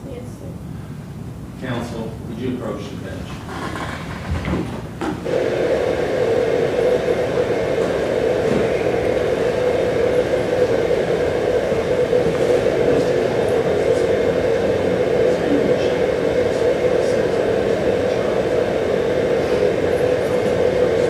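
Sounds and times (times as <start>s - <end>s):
loud steady hiss with hum: 0.0s - 21.0s.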